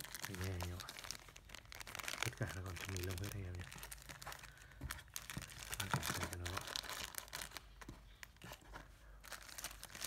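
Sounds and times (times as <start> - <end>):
plastic bags crinkling: 0.0 - 8.6, 9.2 - 10.0.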